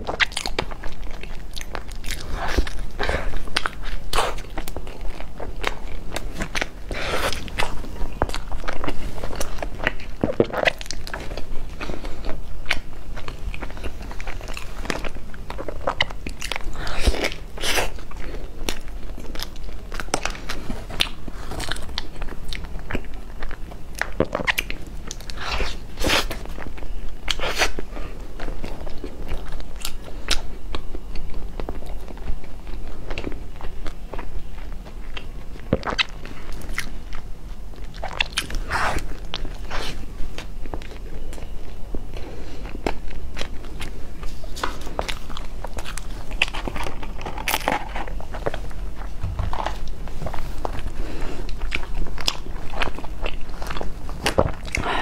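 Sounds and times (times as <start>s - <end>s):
crunching pastry: 0.0s - 55.0s
person chewing: 0.0s - 55.0s.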